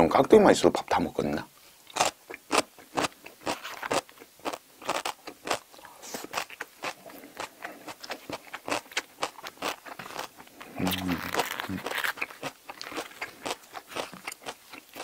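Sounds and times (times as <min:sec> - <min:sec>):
crunchy chewing: 0:01.9 - 0:15.0.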